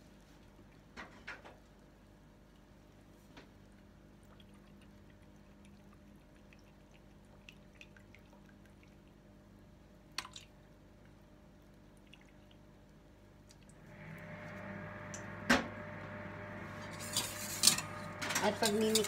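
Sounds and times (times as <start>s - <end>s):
faint low hum: 1.7s - 19.0s.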